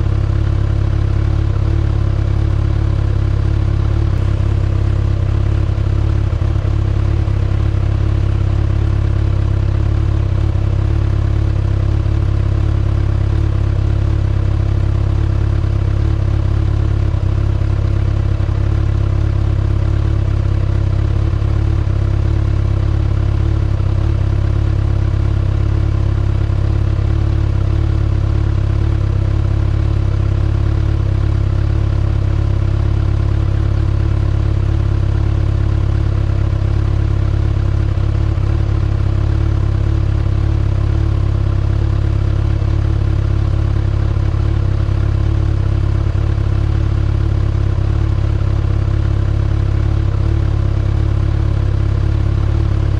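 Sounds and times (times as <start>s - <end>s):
motorcycle engine running steadily: 0.0s - 52.9s.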